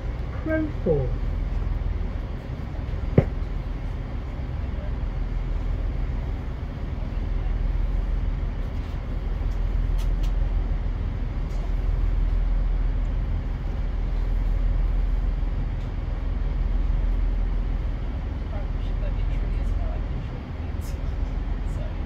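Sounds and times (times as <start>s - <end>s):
train engine rumble: 0.0s - 22.0s.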